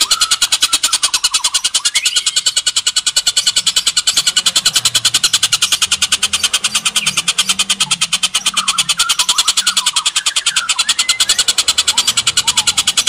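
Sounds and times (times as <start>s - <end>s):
bird chattering call: 0.0s - 13.0s.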